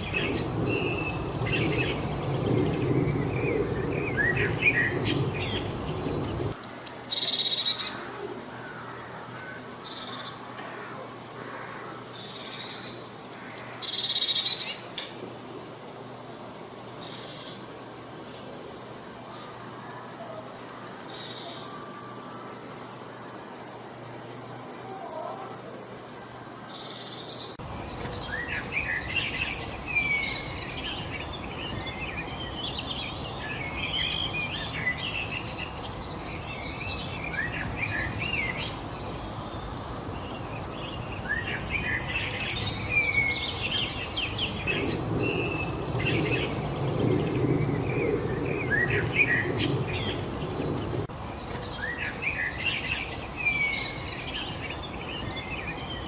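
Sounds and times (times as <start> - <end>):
songbirds chirping and trilling: 0.0 - 56.0
steady background hiss: 0.0 - 56.0.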